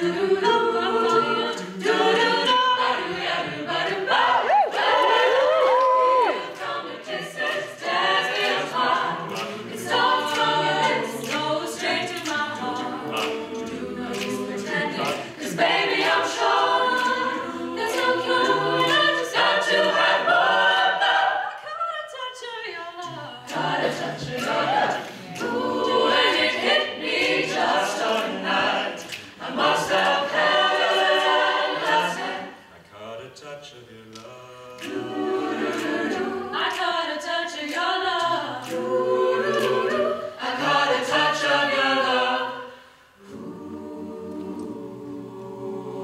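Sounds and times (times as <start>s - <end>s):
a cappella group singing: 0.0s - 46.0s.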